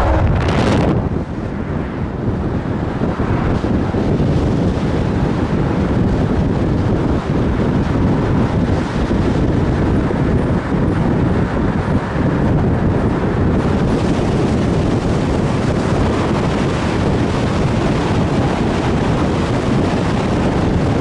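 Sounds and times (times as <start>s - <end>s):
car road noise: 0.0s - 21.0s
wind buffeting microphone: 0.0s - 21.0s.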